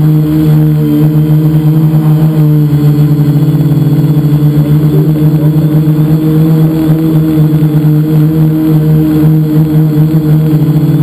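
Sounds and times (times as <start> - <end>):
drone motors and propellers humming: 0.0 - 11.0.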